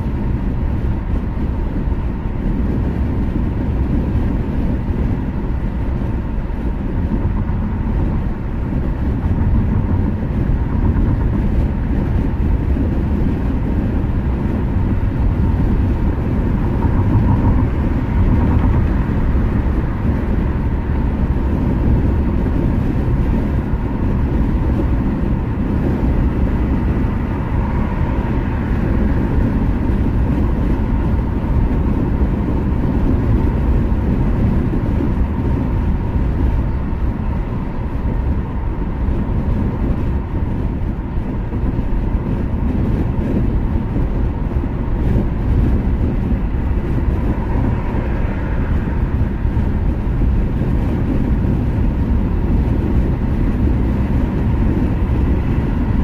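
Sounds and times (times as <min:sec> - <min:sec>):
car driving at highway speed: 0:00.0 - 0:56.0.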